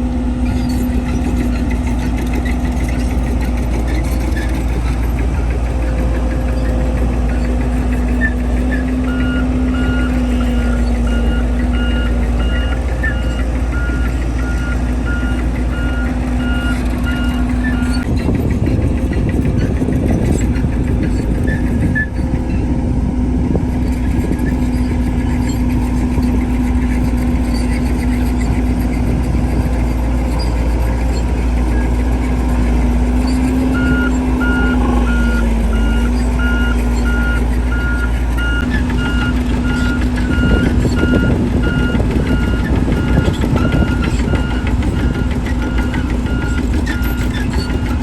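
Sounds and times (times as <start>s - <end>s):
heavy diesel machinery running: 0.0s - 48.0s.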